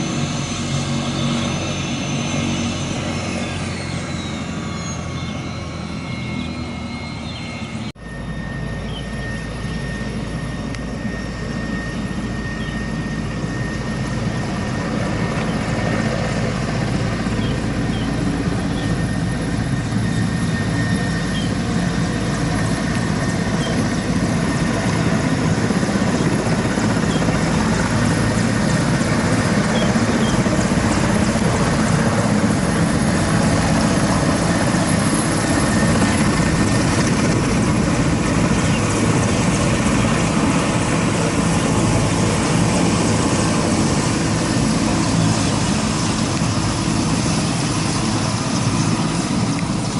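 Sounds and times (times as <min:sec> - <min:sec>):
helicopter rotor and turbine: 0:00.0 - 0:49.9.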